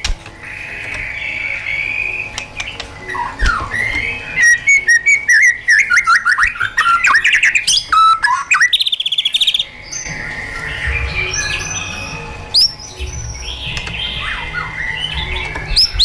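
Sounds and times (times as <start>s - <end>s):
songbird whistling and trilling: 0.4s - 16.0s.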